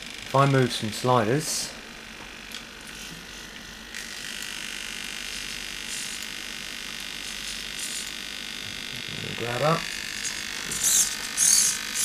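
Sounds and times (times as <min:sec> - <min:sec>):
servos buzzing under load: 0:00.0 - 0:12.0.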